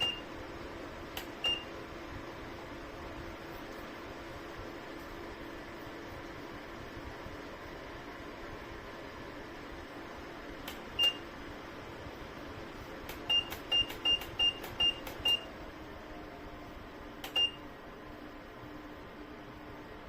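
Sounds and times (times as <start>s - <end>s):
fan running: 0.0s - 20.0s.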